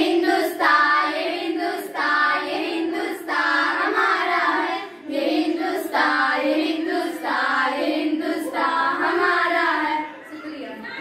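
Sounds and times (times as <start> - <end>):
girls singing together: 0.0 - 11.0.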